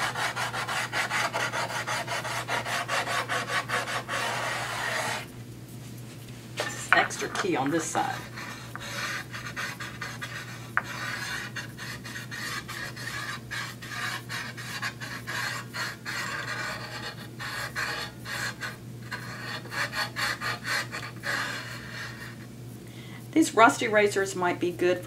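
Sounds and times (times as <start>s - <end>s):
eraser scrubbing steel blade: 0.0s - 5.3s, 7.2s - 22.3s.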